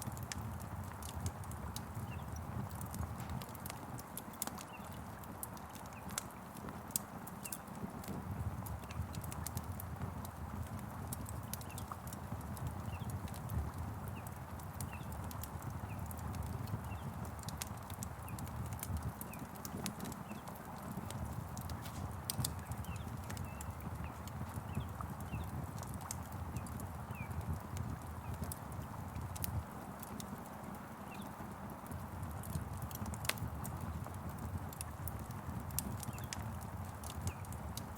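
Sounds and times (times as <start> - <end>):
fire crackling and popping: 0.0 - 37.9.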